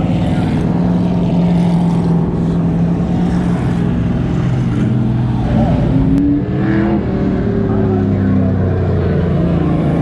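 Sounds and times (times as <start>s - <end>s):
car engines droning: 0.0s - 10.0s.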